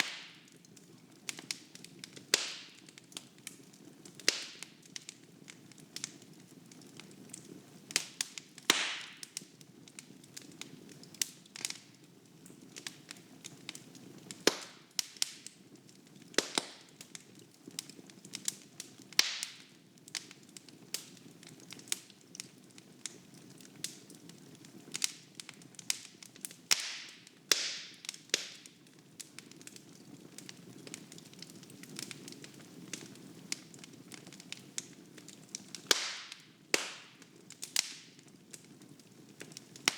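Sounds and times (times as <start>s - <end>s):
rustle of flames: 0.0s - 39.9s
wood fire popping and snapping: 0.0s - 39.9s.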